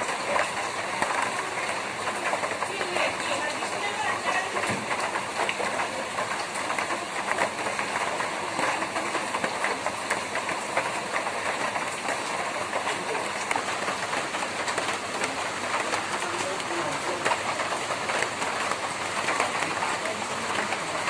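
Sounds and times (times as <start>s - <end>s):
rain on a tin roof: 0.0s - 21.0s.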